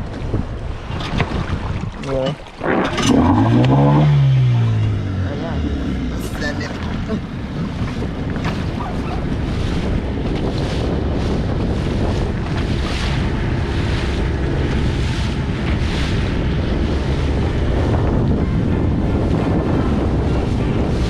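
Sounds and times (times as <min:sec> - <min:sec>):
water rushing past boat: 0:00.0 - 0:21.0
wind buffeting microphone: 0:00.0 - 0:21.0.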